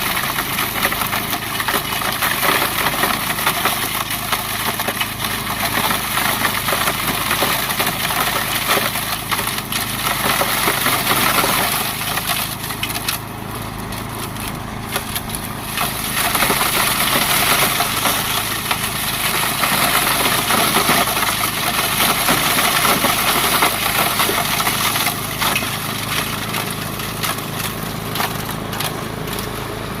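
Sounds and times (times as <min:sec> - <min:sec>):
snowblower engine drone: 0:00.0 - 0:30.0.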